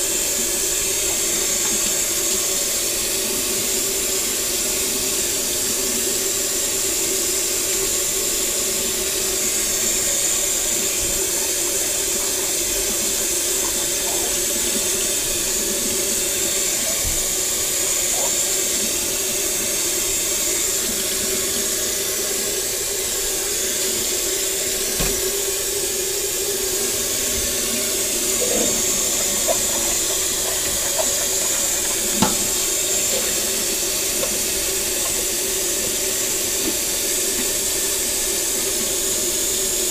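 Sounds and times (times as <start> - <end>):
faucet water splashing in sink: 0.0 - 39.9.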